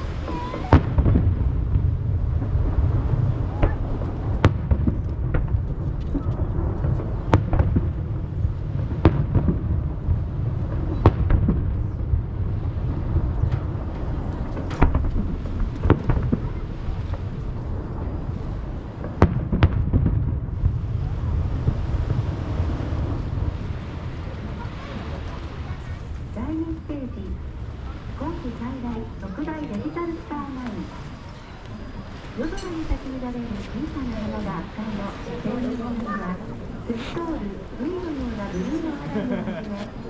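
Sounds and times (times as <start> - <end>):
deep rumble of booms: 0.0 - 40.0
fireworks bangs: 0.0 - 40.0.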